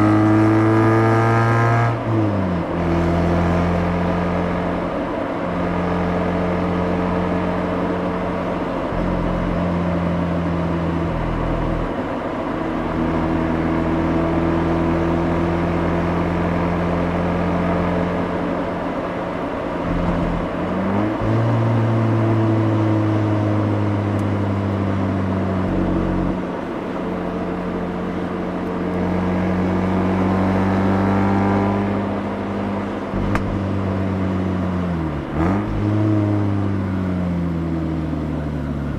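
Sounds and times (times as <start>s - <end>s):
rotary engine and exhaust driving: 0.0s - 38.9s.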